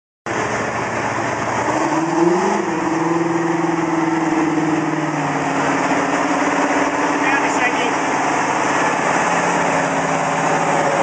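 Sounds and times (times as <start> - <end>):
tractor engine running: 0.3 - 1.9, 3.5 - 11.0.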